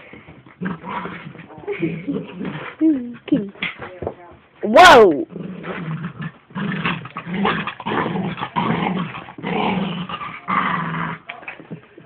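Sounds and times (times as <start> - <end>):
dog play growling: 0.2 - 3.6, 5.2 - 11.8.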